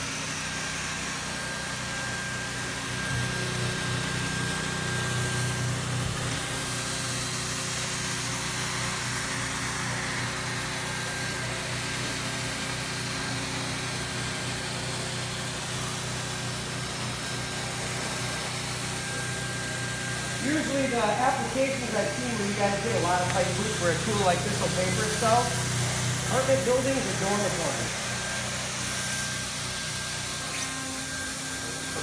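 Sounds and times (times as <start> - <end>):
hot-air blower hiss: 0.0 - 32.0
motor hum: 0.0 - 32.0
thin mechanical whine: 0.0 - 32.0.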